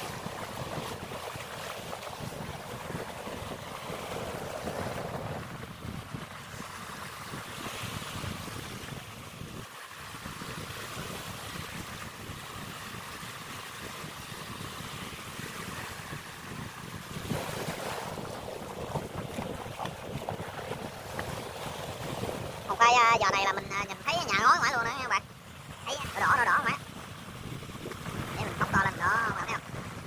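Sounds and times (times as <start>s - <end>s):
small waves washing over water: 0.0s - 30.0s
wind buffeting microphone: 0.0s - 30.0s.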